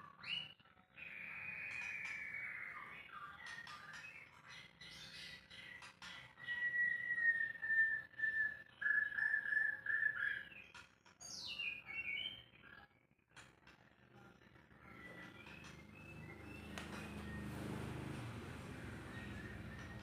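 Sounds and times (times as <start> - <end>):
bird whistling song: 0.1 - 12.6, 14.8 - 20.0.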